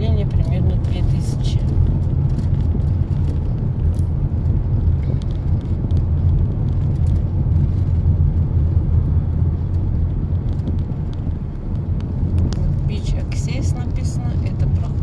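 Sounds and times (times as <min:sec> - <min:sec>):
road and tyre noise in car: 0:00.0 - 0:15.0.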